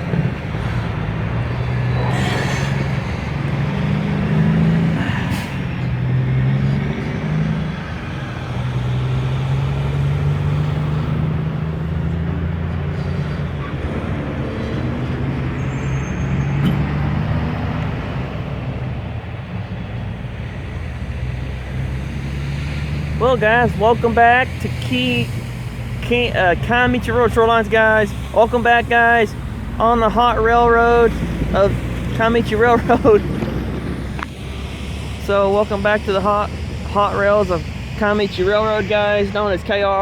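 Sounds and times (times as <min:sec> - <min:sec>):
locomotive engine drone: 0:00.0 - 0:40.0.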